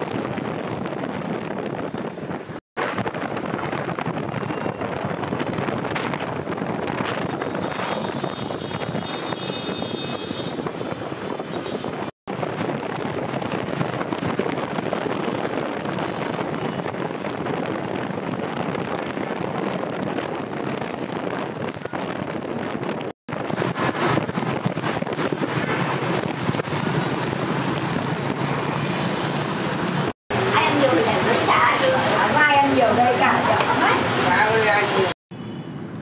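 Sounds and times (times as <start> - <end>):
wind buffeting microphone: 0.0 - 35.2.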